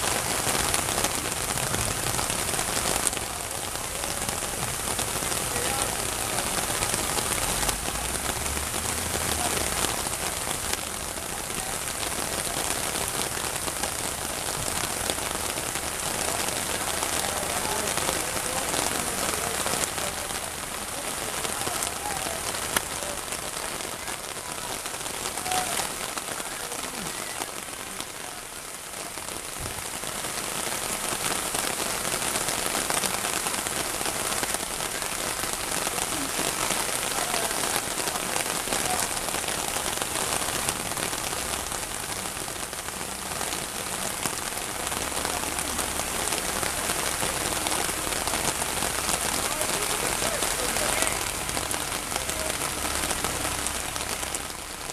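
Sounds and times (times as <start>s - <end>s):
heavy rain on a street: 0.0s - 54.9s.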